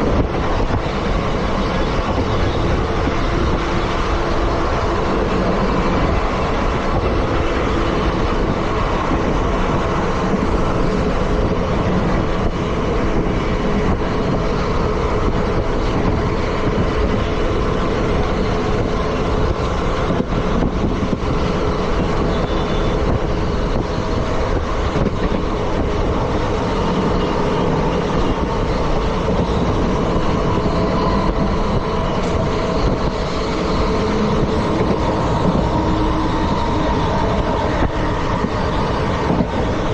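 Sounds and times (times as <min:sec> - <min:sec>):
train coach running noise: 0:00.0 - 0:39.9
train wheels rumbling on rails: 0:00.0 - 0:39.9.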